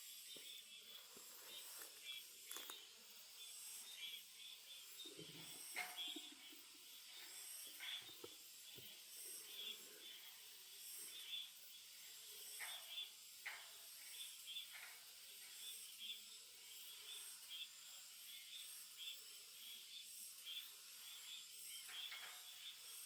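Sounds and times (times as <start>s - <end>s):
birds chirping faintly: 0.0s - 23.0s
steady high hiss: 0.0s - 23.0s.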